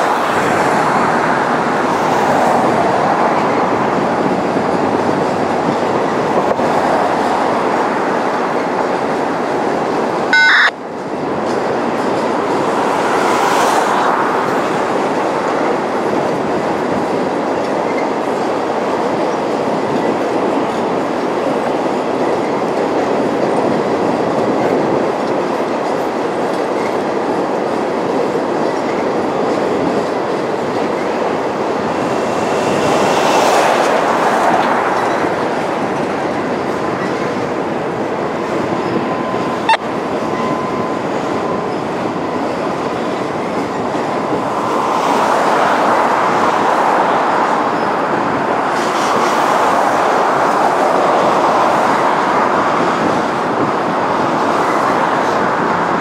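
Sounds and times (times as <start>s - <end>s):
freight train wheels on rail: 0.0s - 56.0s.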